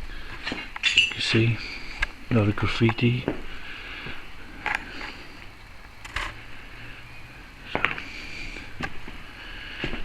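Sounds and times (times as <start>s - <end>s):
faint steady hiss: 1.2s - 9.7s.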